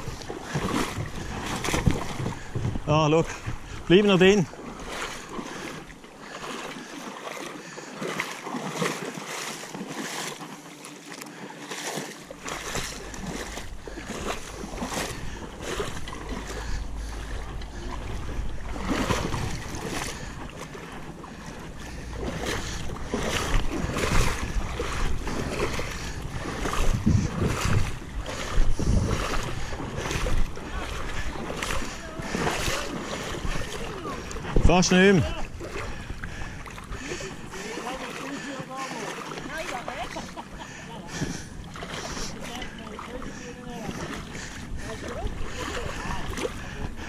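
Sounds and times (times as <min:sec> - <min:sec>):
river water rushing and splashing: 0:00.0 - 0:47.0.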